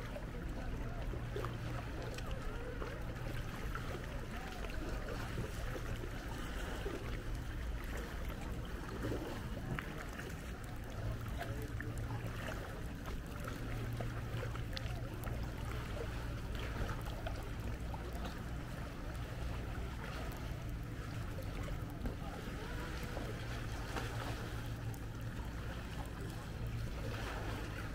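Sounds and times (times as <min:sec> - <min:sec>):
paddle splashes: 0:00.0 - 0:27.9
water lapping and splashing: 0:00.0 - 0:27.9.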